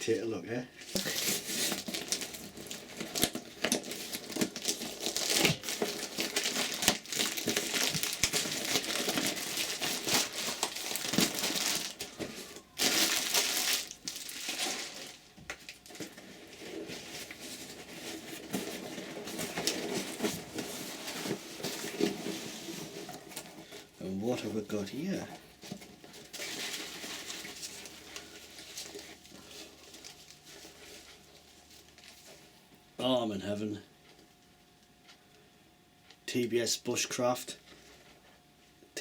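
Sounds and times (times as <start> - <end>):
packaging crinkling and rustling: 0.8 - 32.7.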